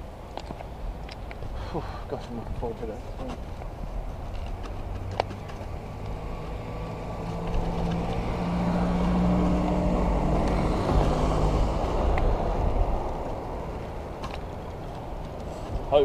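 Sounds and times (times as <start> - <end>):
vehicle passing on road: 2.0 - 16.0.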